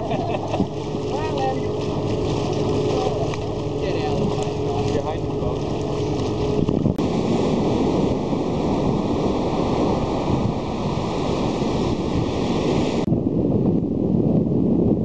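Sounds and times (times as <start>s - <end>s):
surf washing onto beach: 0.0s - 14.7s
wind noise on microphone: 0.0s - 15.0s.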